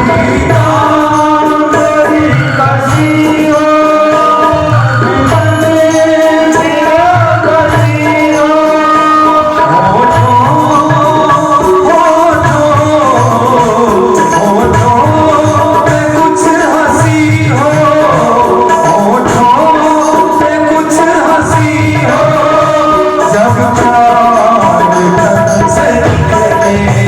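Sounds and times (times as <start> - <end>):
person singing: 0.0 - 27.0
steady drum beat: 0.0 - 27.0.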